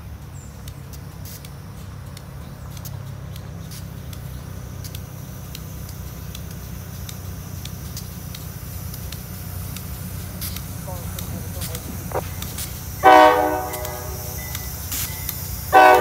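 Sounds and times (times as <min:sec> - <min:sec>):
locomotive engine rumble: 0:00.0 - 0:16.0.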